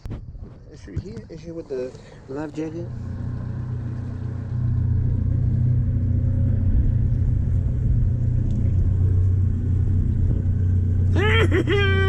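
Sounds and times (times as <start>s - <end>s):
outboard motor running: 1.3s - 12.0s.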